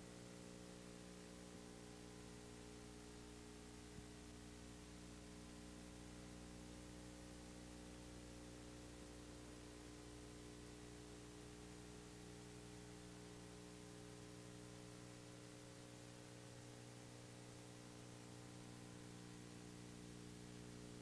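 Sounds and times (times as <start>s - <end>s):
faint electrical hum with hiss: 0.0s - 21.0s.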